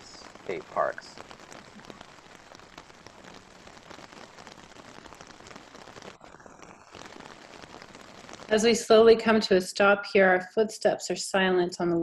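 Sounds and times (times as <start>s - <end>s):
raindrops pattering: 0.0s - 12.0s
steady rain falling: 0.0s - 12.0s.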